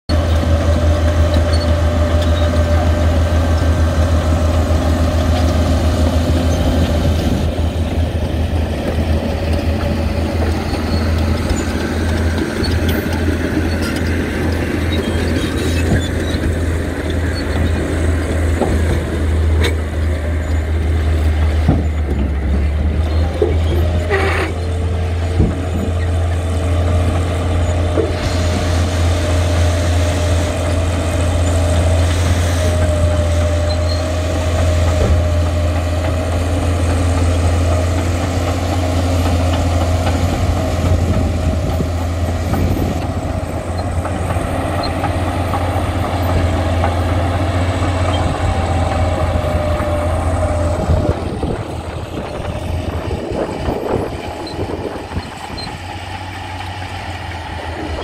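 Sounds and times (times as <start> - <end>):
diesel engine running under load: 0.1 - 58.0.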